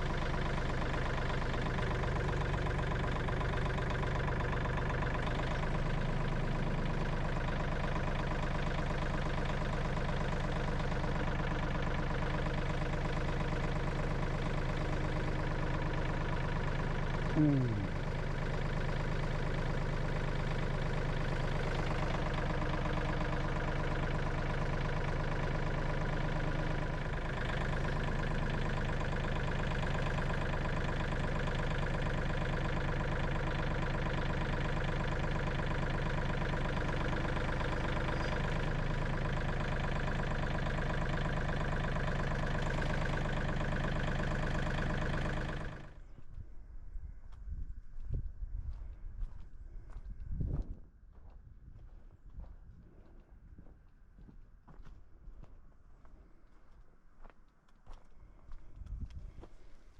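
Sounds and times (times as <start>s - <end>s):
tractor engine running: 0.0s - 50.6s.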